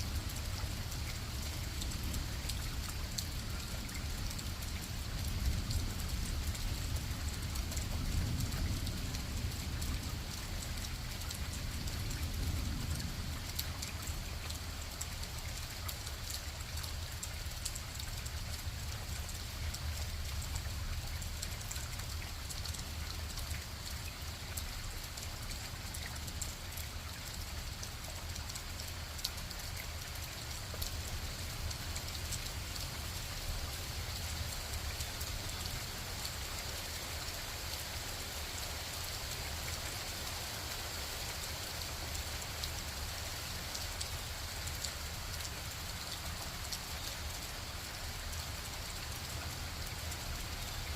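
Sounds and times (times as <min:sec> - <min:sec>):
constant low rumble: 0:00.0 - 0:50.9
raindrops ticking: 0:00.0 - 0:50.9
steady rain falling: 0:00.0 - 0:50.9.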